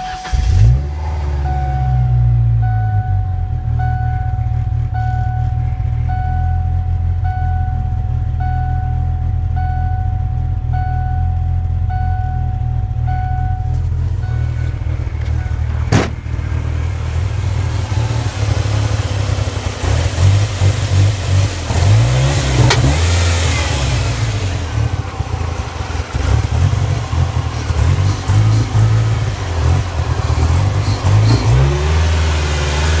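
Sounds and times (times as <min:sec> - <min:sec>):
engine idling rough: 0:00.0 - 0:33.0.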